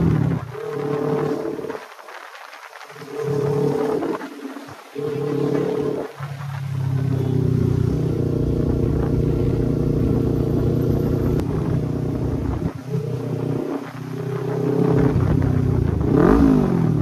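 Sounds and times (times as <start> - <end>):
motorcycle engine running: 0.0 - 2.2, 2.9 - 17.0.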